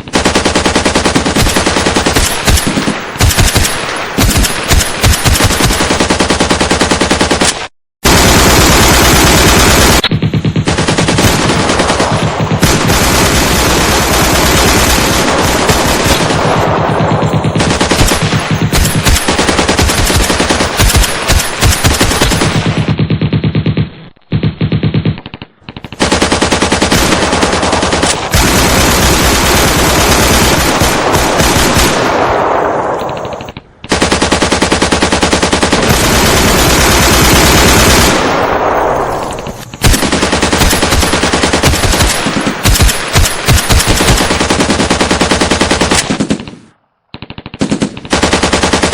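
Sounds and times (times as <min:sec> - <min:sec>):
machine guns firing bursts: 0:00.0 - 0:48.9.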